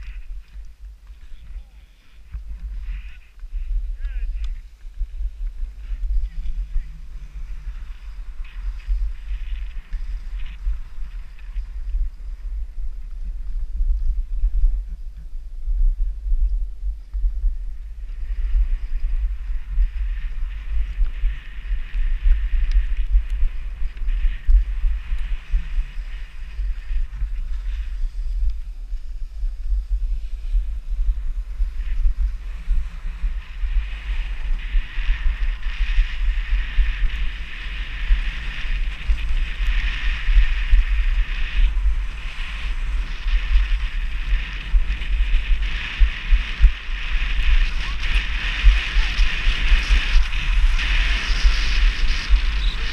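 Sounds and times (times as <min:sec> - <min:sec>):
skis scraping on packed snow: 0:00.0 - 0:13.6, 0:17.9 - 0:52.9
wind rumbling on microphone: 0:00.0 - 0:52.9.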